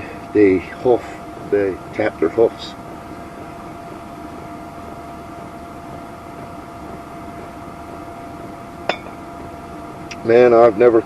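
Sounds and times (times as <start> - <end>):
air heater drone with whine: 0.0 - 11.0.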